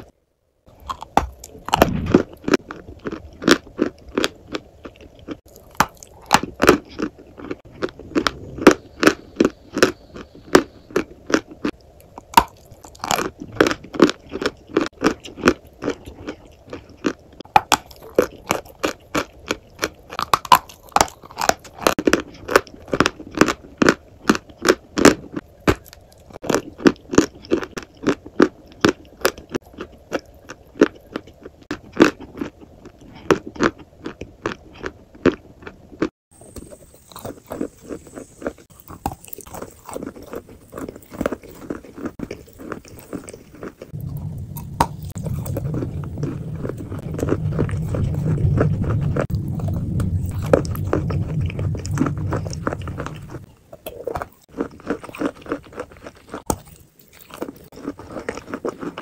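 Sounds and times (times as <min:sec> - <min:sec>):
crunching food: 0:00.7 - 0:59.0
person chewing: 0:00.7 - 0:59.0.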